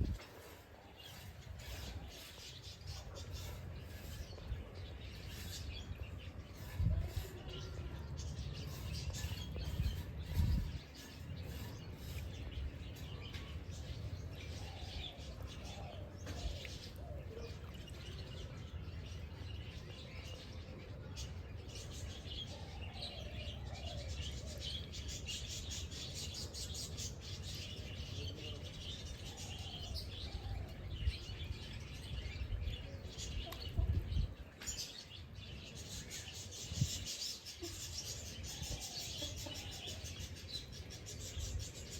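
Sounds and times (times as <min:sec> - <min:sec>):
birds chirping and calling: 0:00.0 - 0:41.9.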